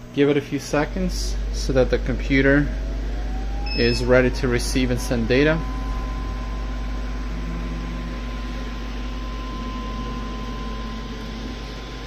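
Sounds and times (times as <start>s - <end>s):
high steady whine: 0.0s - 12.0s
laser cutter humming: 0.0s - 12.0s.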